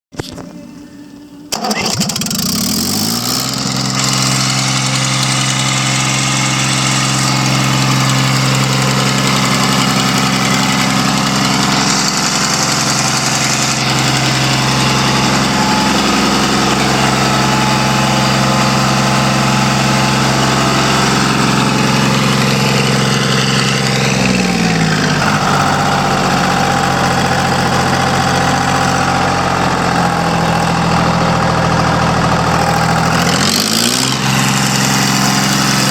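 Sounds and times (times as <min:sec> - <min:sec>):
diesel engine running: 0:00.6 - 0:35.9.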